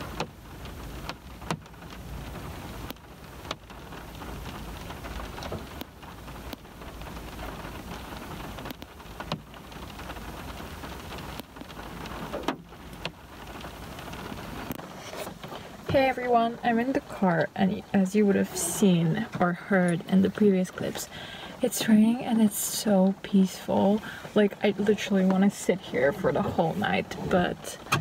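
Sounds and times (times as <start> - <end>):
rain on car windows: 0.0 - 28.0
sharp raindrops hitting: 0.0 - 28.0.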